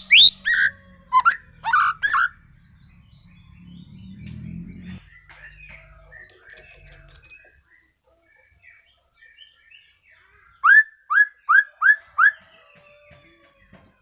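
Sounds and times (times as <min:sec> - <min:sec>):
faint bird twittering: 0:00.0 - 0:12.4.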